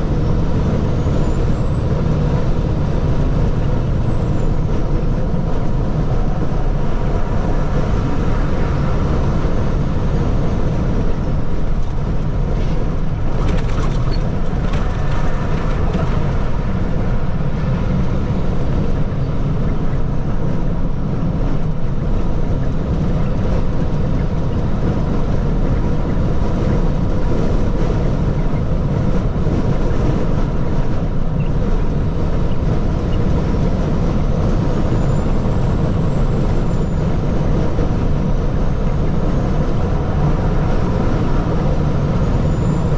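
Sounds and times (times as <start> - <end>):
truck engine rumble: 0.0 - 42.9.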